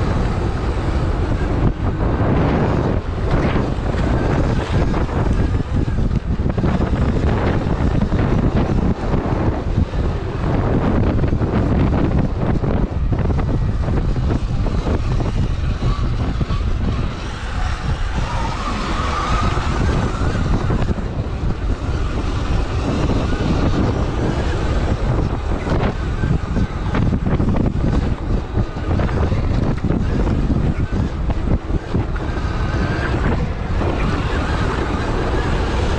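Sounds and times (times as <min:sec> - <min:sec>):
electric motor whine: 0:00.0 - 0:35.9
wind buffeting microphone: 0:00.0 - 0:35.9.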